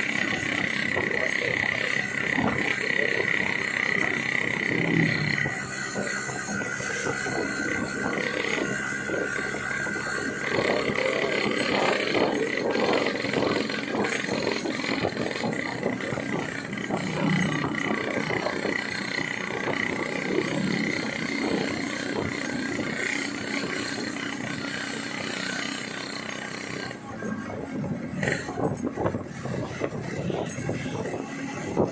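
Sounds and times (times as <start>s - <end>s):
wind noise: 0.0s - 24.0s, 26.9s - 31.9s
motorcycle two-stroke engine: 0.0s - 31.9s.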